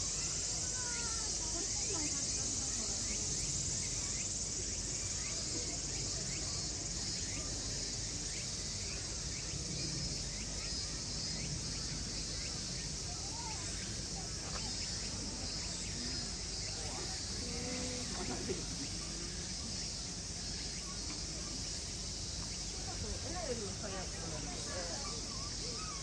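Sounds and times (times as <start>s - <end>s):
insects chorus: 0.0s - 26.0s
short insect chirps: 0.0s - 26.0s.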